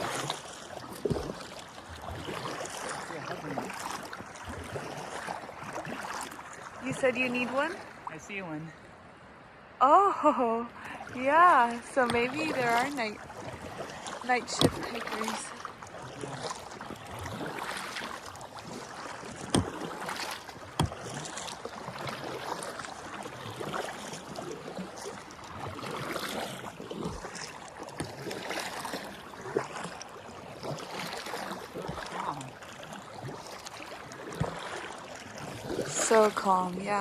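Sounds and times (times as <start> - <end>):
paddle strokes: 0.0 - 9.1, 10.7 - 37.0
water sloshing and splashing: 0.0 - 37.0.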